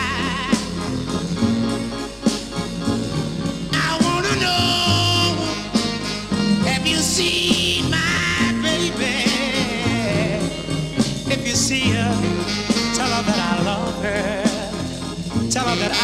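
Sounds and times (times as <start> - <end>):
slow instrumental love song: 0.0 - 16.0.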